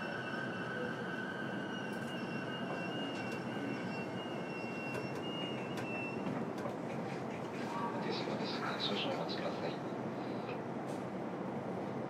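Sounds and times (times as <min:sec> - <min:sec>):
electric train running hum: 0:00.0 - 0:12.0.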